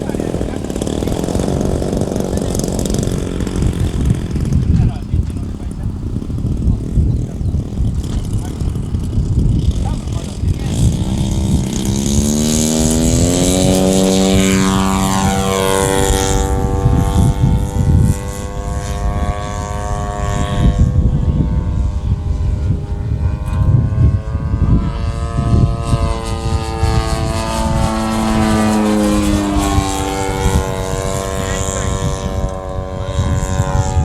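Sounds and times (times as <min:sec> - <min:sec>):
model plane engine and propeller: 0:00.0 - 0:34.0.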